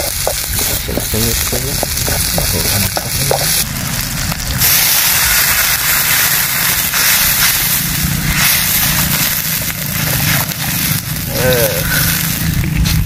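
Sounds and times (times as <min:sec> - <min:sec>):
hot oil sizzling in a frying pan: 0:00.0 - 0:13.0.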